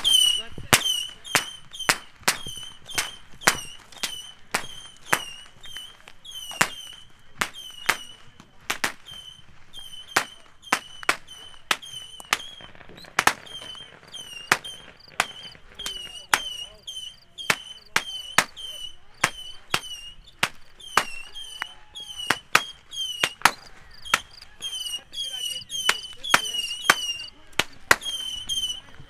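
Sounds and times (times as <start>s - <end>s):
fireworks sharp reports: 0.0s - 29.0s.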